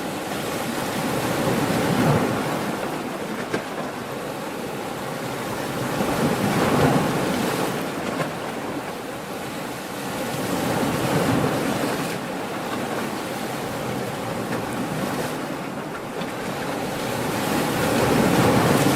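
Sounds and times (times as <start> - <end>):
ocean waves breaking on shore: 0.0 - 18.9.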